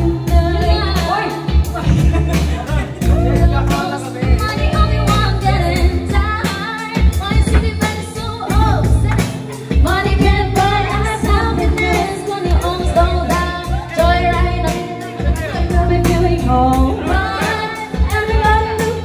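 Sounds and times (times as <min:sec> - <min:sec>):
backing track with drum beat: 0:00.0 - 0:19.0
women singing pop song: 0:00.0 - 0:19.0.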